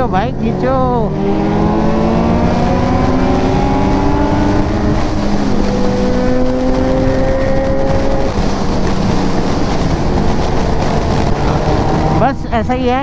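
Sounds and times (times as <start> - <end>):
wind rush: 0.0 - 13.0.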